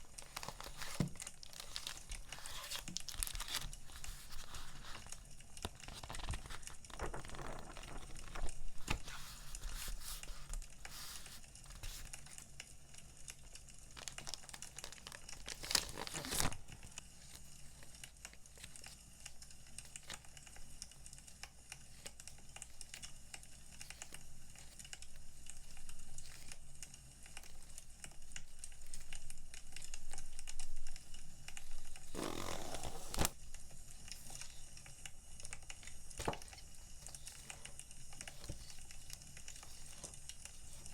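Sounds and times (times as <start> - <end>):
paper and plastic packaging rustling: 0.0 - 12.6, 13.4 - 20.8, 23.7 - 34.8, 35.4 - 40.9.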